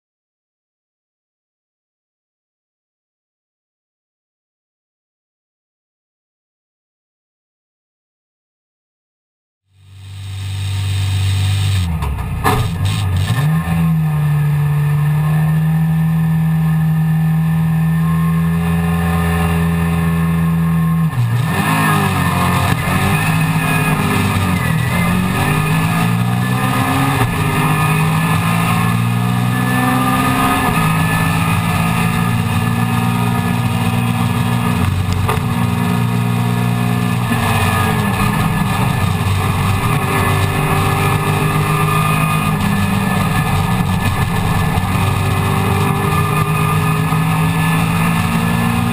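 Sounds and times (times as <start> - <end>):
race car engine revving: 9.8 - 48.9.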